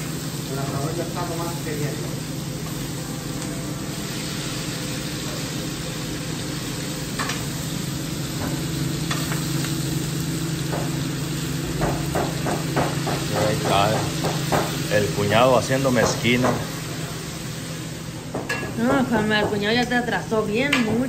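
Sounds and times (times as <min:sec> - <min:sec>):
meat sizzling on a grill: 0:00.0 - 0:21.0
steady low hum: 0:00.0 - 0:21.0.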